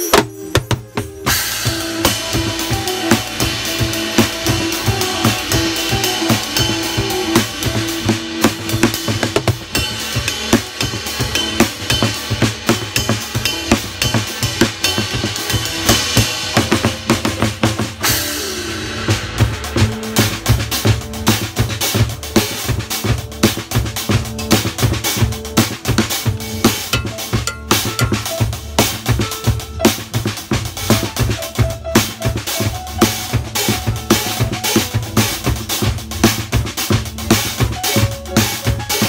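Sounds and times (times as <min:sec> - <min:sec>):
band backing track: 0:00.0 - 0:39.0
drum kit groove: 0:00.0 - 0:39.0.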